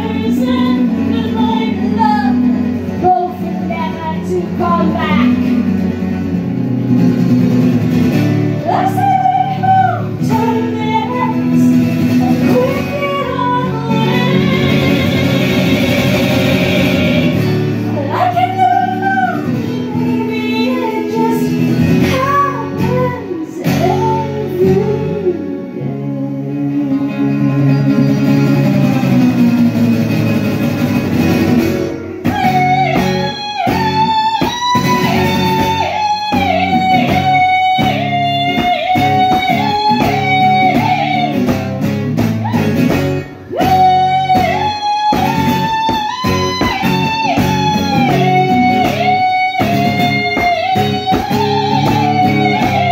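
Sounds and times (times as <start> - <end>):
woman singing: 0.0 - 5.8, 8.6 - 29.2, 32.2 - 52.9
acoustic guitar strumming: 0.0 - 52.9.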